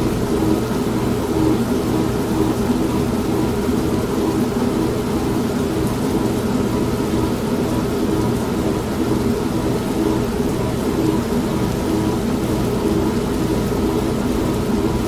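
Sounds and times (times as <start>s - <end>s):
steady rain: 0.0s - 15.0s
washing machine humming and churning: 0.0s - 15.0s.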